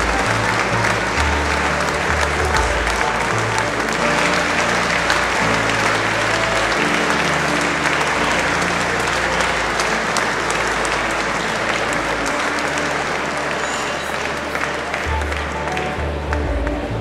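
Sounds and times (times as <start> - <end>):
audience applauding: 0.0 - 17.0
music with sustained low notes: 0.0 - 17.0.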